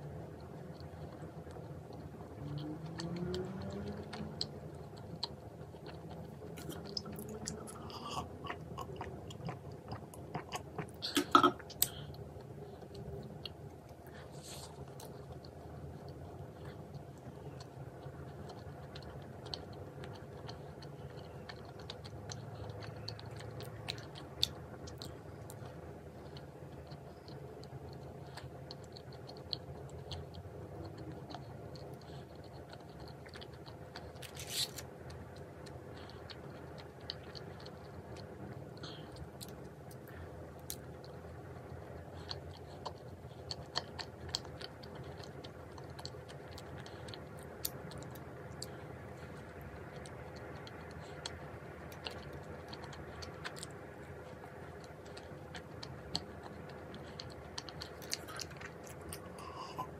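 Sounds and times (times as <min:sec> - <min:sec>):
faint hum: 0:00.0 - 0:59.9
person chewing: 0:00.3 - 0:59.9.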